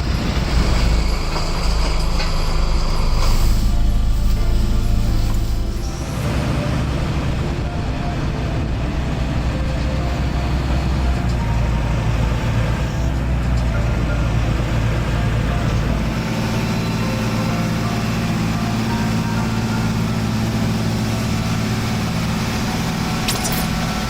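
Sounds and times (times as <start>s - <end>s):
heavy engine humming: 0.0s - 24.0s.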